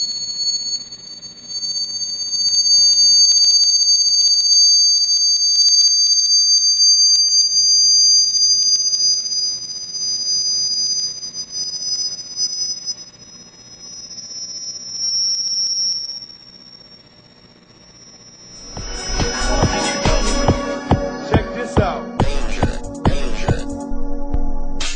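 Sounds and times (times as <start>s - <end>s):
high-pitched vibrating plate tone: 0.0s - 24.9s.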